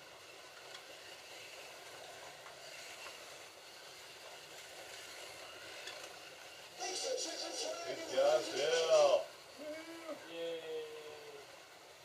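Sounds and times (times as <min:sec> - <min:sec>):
slot cars whirring: 0:00.0 - 0:12.0.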